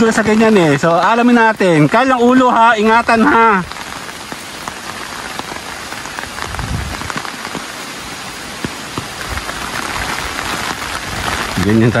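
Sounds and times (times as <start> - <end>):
rain on an umbrella: 0.0 - 12.0.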